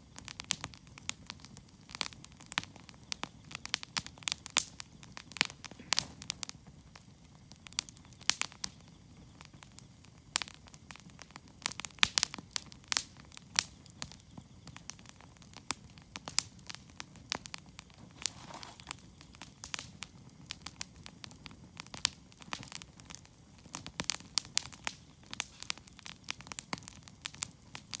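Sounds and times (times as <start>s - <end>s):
campfire crackling: 0.0s - 28.0s
fire popping and snapping: 0.0s - 28.0s
rush of burning: 0.0s - 28.0s.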